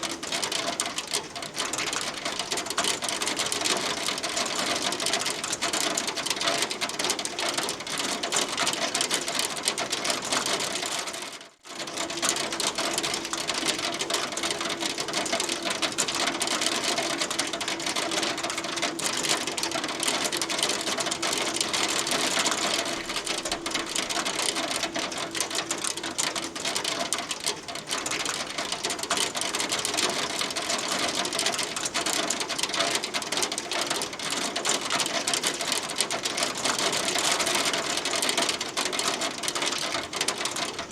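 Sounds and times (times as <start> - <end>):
hail clattering: 0.0 - 40.9.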